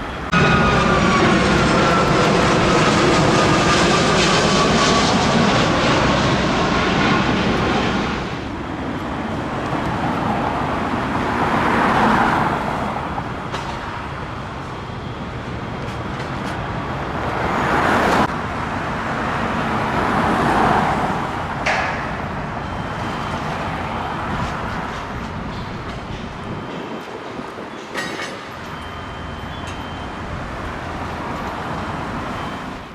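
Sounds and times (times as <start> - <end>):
aircraft engine noise: 0.0 - 32.9
road traffic passing: 0.0 - 32.9.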